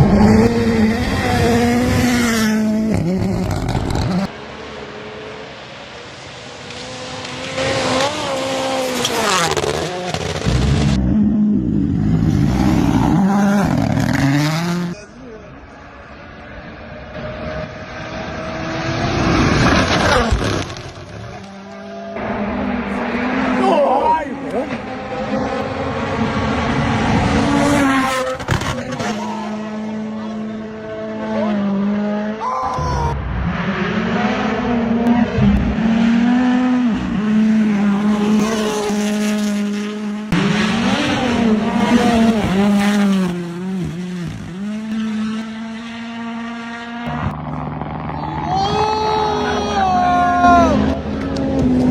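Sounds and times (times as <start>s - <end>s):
rally car revving through gears: 0.0s - 4.3s, 6.5s - 15.1s, 16.8s - 32.4s, 33.2s - 48.5s, 50.6s - 51.9s
rally car passing: 0.0s - 51.9s.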